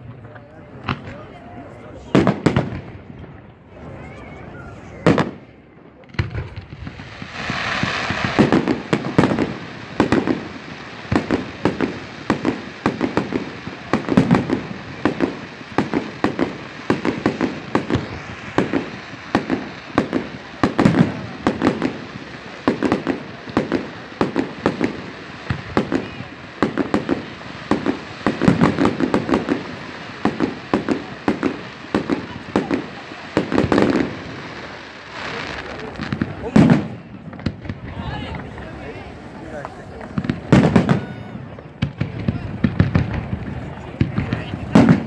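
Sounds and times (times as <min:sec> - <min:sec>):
fireworks bangs: 0:00.0 - 0:45.0
fireworks hiss: 0:06.2 - 0:45.0.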